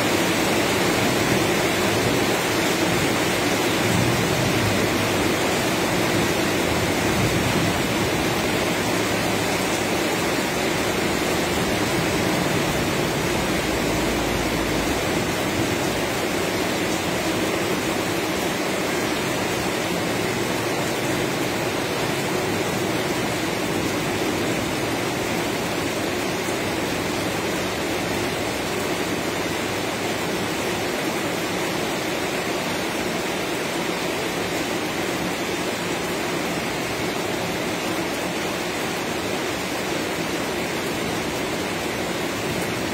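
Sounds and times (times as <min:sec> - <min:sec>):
heavy rain on metal roof: 0:00.0 - 0:42.9.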